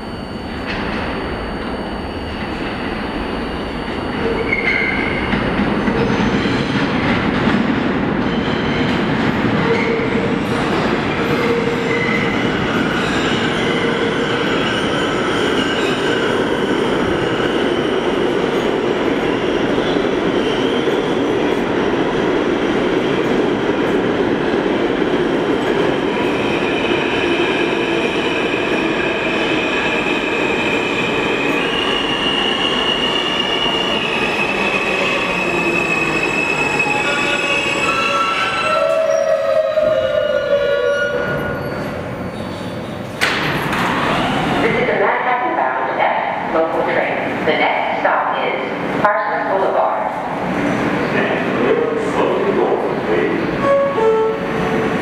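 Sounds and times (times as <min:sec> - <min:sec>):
train wheels rumbling on rail: 0:03.8 - 0:55.0.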